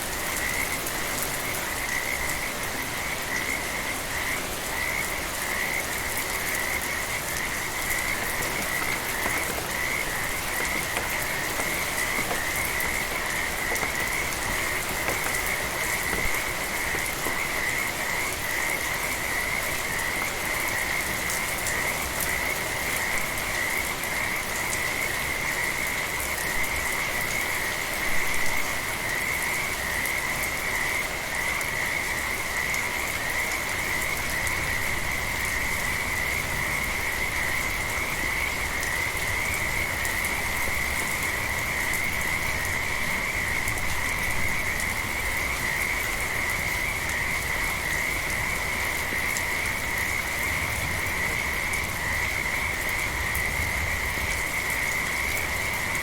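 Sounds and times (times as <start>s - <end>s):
gentle rain hiss: 0.0s - 56.0s.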